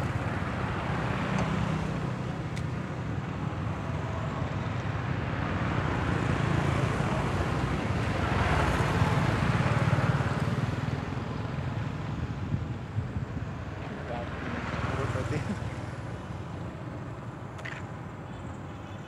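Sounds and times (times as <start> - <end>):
traffic engine rumble: 0.0 - 19.0.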